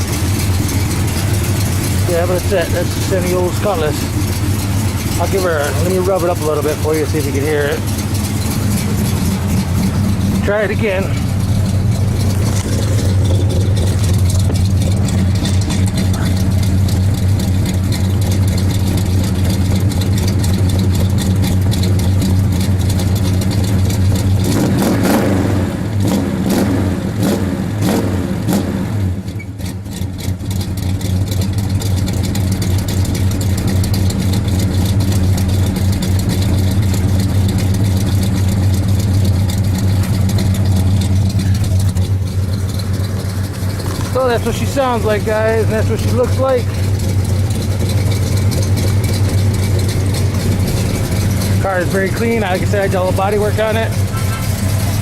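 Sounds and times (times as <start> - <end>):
car engine idling and revving: 0.0 - 55.0
exhaust rattle: 0.0 - 55.0.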